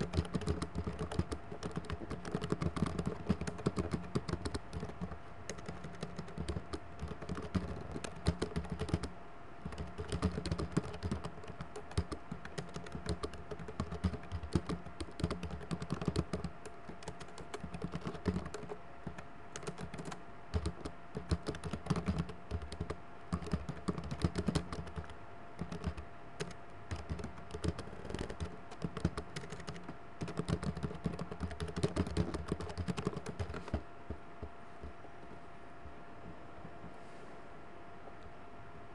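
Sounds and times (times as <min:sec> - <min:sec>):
typing on computer keyboard: 0:00.0 - 0:33.8
faint steady hum: 0:00.0 - 0:38.9.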